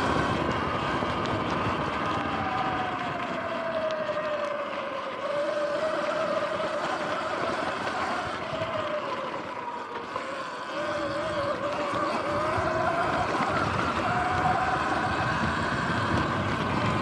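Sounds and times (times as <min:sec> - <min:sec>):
tyres rushing on loose dirt: 0:00.0 - 0:17.0.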